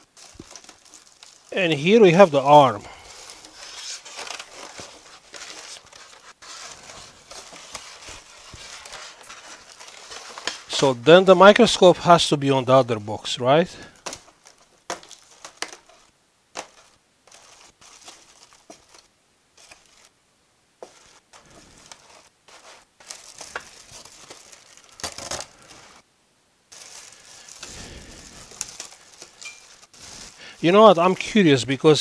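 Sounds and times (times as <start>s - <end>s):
styrofoam scraping against cardboard: 0.0s - 10.8s, 14.5s - 20.1s, 20.8s - 26.0s, 26.7s - 30.8s.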